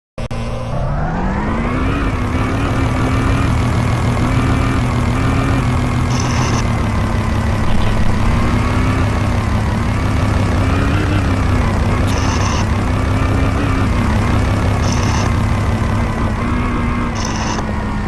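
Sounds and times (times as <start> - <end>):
dirt bike engine running: 0.2 - 18.0.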